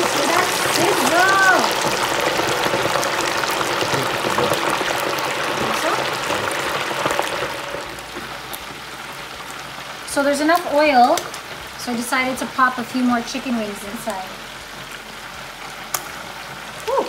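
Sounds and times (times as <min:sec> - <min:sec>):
oil bubbling and crackling: 0:00.0 - 0:17.0.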